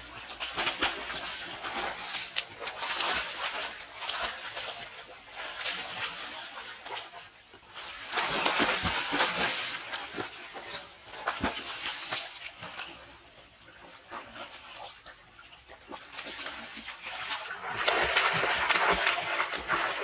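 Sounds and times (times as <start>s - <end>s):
water splashing from swimmers: 0.0s - 20.0s.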